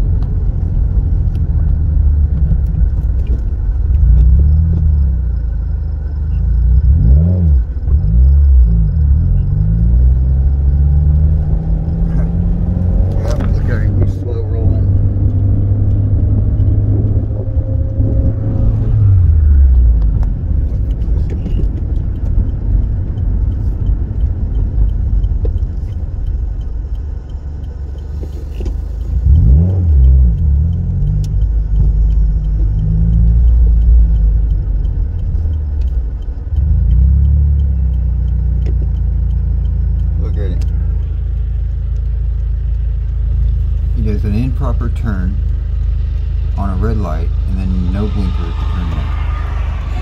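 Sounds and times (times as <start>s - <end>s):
car engine from inside cabin: 0.0s - 50.0s
road rumble: 0.0s - 50.0s.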